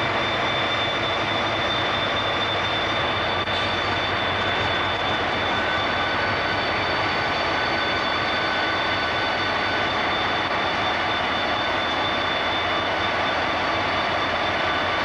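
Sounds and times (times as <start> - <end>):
diesel locomotive engine droning: 0.0 - 15.0
high whine: 0.0 - 15.0.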